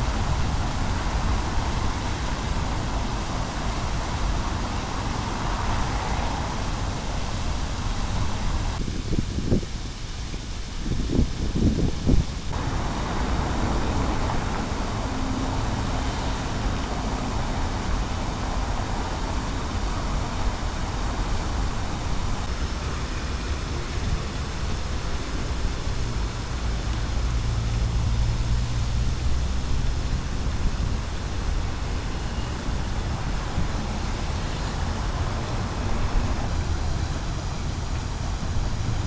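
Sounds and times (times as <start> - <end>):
fountain water splashing: 0.0 - 39.0
low road traffic rumble: 0.0 - 39.0.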